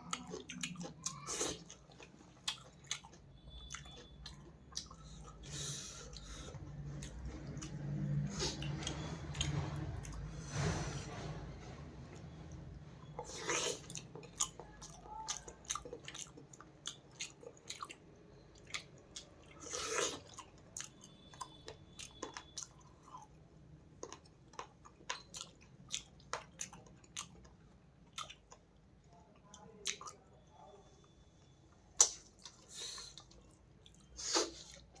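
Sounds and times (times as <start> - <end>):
person chewing food: 0.0 - 10.3, 13.0 - 28.8, 32.0 - 35.0.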